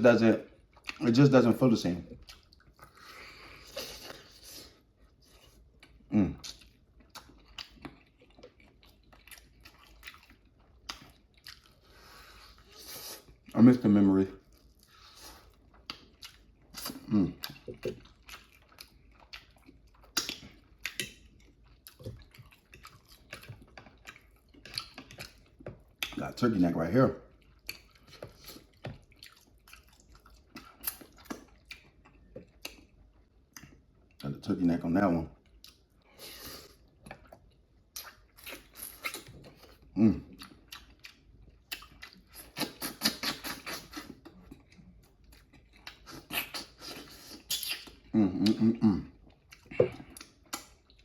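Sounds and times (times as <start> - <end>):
chewing and mouth sounds: 0.3 - 1.4, 2.0 - 13.6, 14.3 - 34.5, 35.3 - 51.0.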